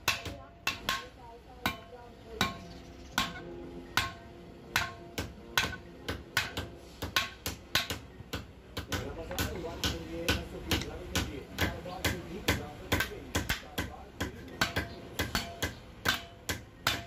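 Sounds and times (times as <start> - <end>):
hammer striking steel: 0.0 - 17.0.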